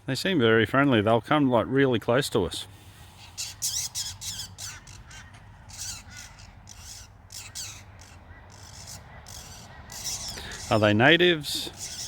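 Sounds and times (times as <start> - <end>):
birds calling high-pitched: 0.8 - 12.0.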